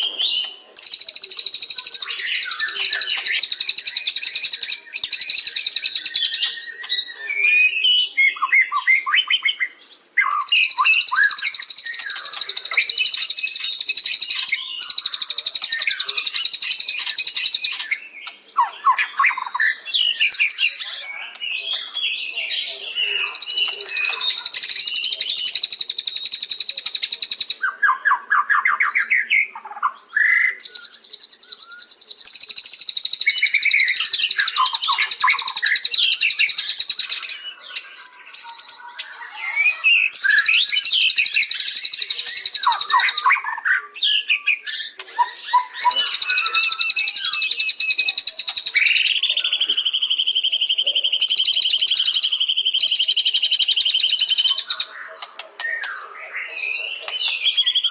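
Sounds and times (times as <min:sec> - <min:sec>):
songbird singing trills and whistles: 0:00.0 - 0:57.9.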